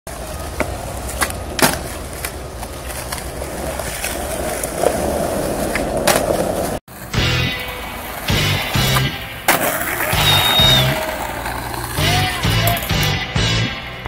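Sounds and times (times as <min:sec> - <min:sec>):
skateboard clacking on street: 0:00.1 - 0:13.2
skateboard wheels rolling on asphalt: 0:00.1 - 0:13.2.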